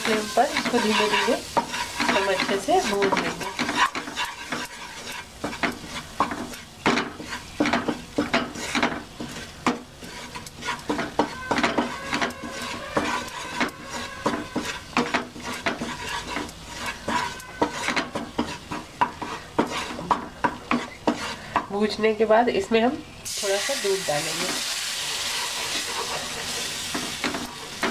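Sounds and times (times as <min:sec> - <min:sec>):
wooden spatula scraping a pan: 0:00.0 - 0:22.3, 0:23.7 - 0:27.9
butter and flour sizzling: 0:00.0 - 0:27.9.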